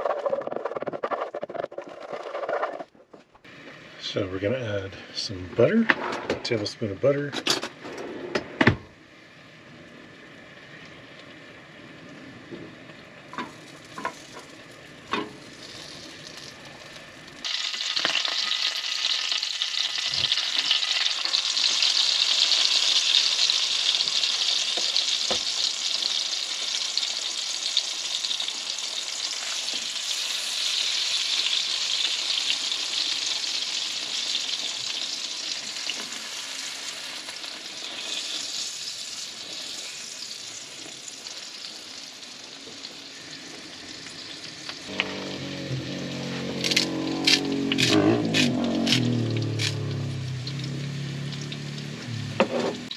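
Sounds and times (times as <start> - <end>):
food sizzling in frying pan: 9.1 - 52.9.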